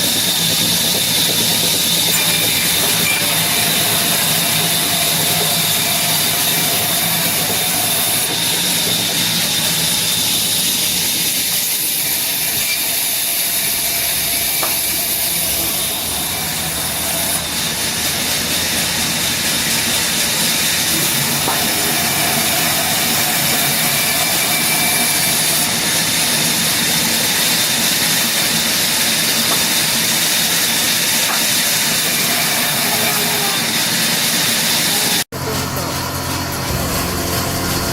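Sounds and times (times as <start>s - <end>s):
power saw cutting wood: 0.0s - 37.9s.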